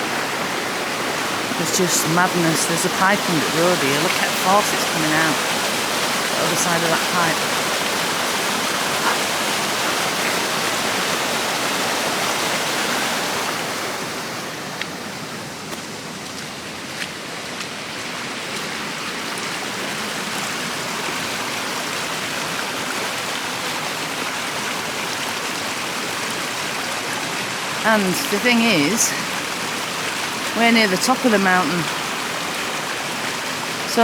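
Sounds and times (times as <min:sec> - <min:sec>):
water rushing from pipe: 0:00.0 - 0:34.0.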